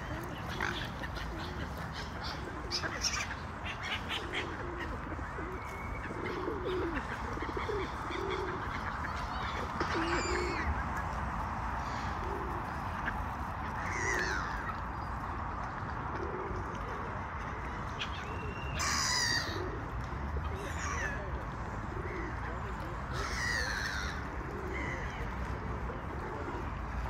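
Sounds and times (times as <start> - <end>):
pigeons cooing: 0.0 - 15.1, 15.8 - 27.0
steady background noise: 0.0 - 27.0.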